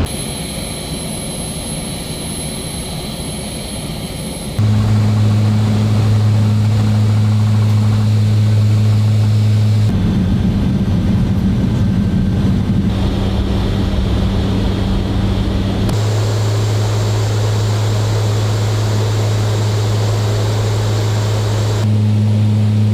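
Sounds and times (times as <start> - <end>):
deep propeller drone: 0.0 - 22.9.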